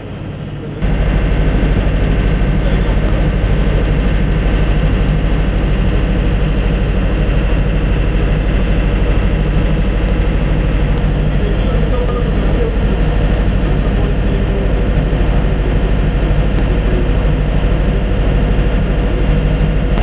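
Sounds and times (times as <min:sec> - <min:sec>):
machinery low hum: 0:00.0 - 0:20.0.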